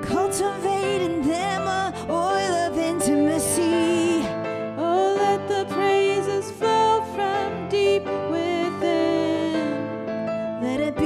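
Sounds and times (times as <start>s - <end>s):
person singing: 0.0s - 9.9s, 10.6s - 11.0s.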